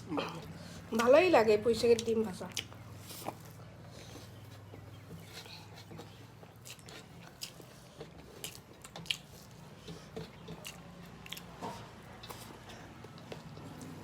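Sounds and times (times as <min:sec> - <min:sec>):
chewing and lip smacks: 0:02.0 - 0:14.0.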